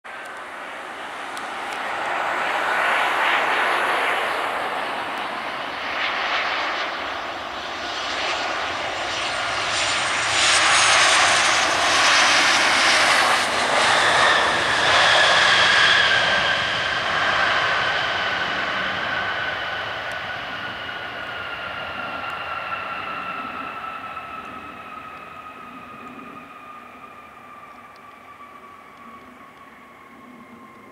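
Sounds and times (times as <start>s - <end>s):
jet engine whine: 0.0s - 30.9s
jet engines rushing: 0.1s - 30.9s.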